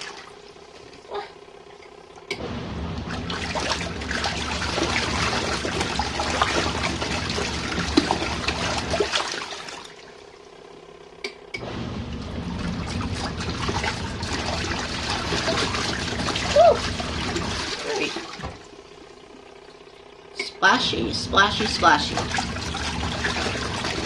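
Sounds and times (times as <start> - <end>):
water sloshing and splashing: 0.0 - 10.6, 11.6 - 20.3, 21.3 - 24.0
washing machine motor humming: 0.0 - 24.0.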